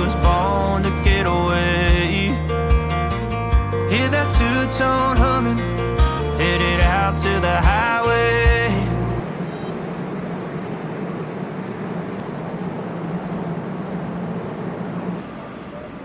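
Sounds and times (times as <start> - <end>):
vehicle noise with low hum: 0.0 - 16.0.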